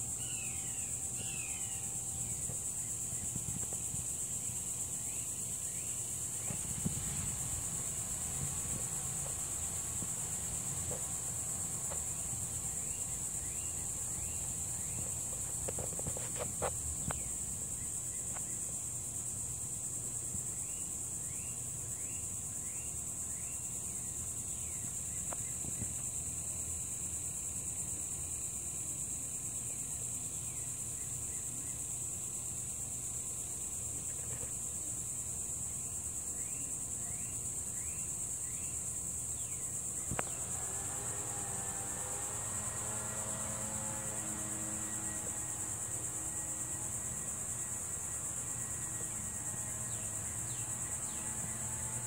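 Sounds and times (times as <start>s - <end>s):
insect chorus: 0.0s - 52.0s.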